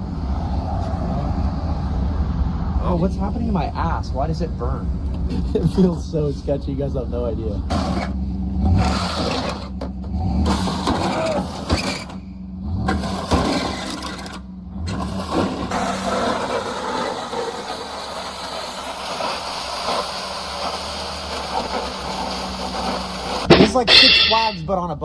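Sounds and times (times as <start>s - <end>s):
vehicle engine hum: 0.0s - 23.5s
road and rolling noise: 0.0s - 23.8s.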